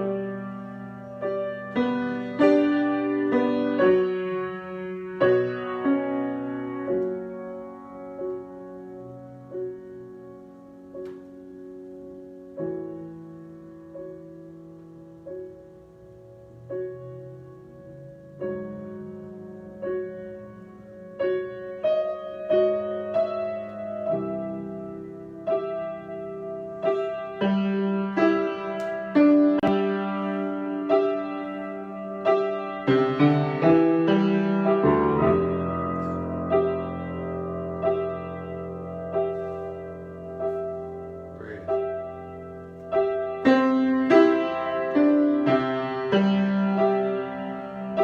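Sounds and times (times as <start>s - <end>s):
solo piano: 0.0s - 48.0s.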